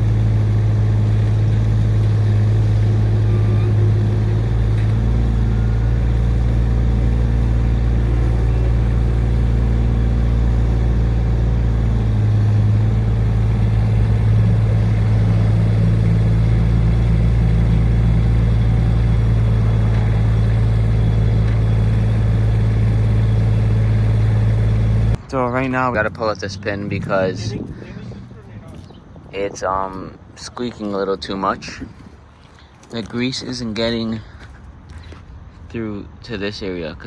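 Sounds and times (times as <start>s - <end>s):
diesel engine humming: 0.0s - 37.0s.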